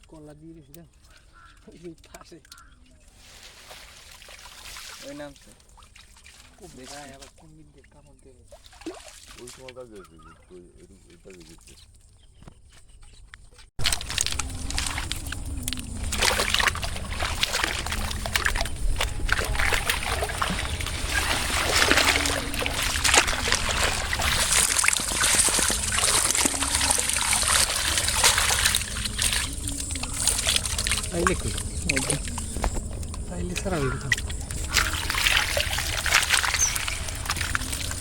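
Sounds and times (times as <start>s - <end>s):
water splashing and sloshing: 0.1s - 38.0s.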